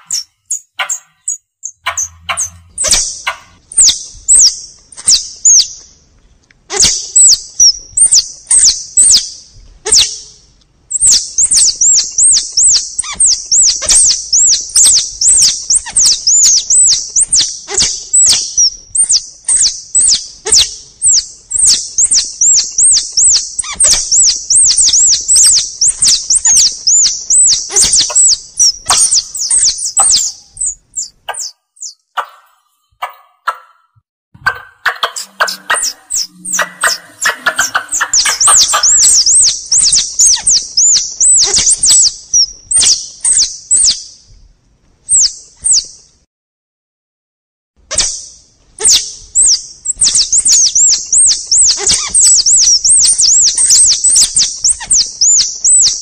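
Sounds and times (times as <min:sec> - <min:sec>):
high squeaky squirrel chirps: 0:00.0 - 0:05.9, 0:06.7 - 0:44.2, 0:45.1 - 0:46.0, 0:47.9 - 0:56.0.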